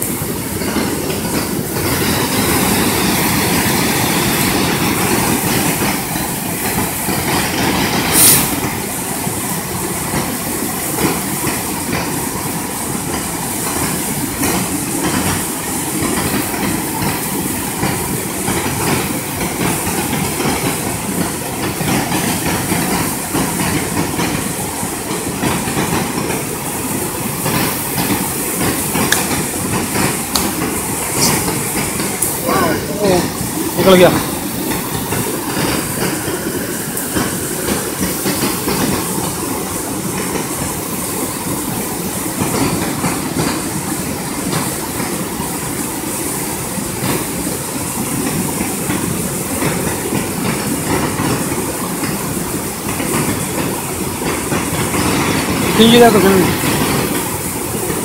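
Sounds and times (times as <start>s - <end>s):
river water rushing over stones: 0.0s - 11.2s, 22.5s - 58.0s.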